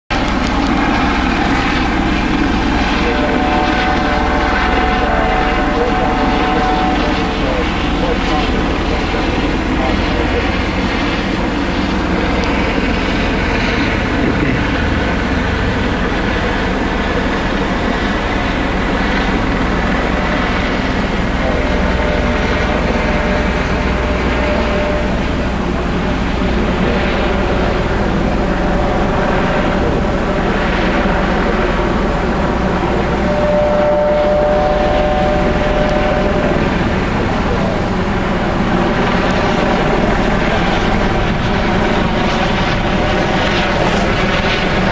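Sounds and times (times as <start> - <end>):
helicopter rotor drone: 0.1 - 44.9
thin whine: 0.1 - 44.9.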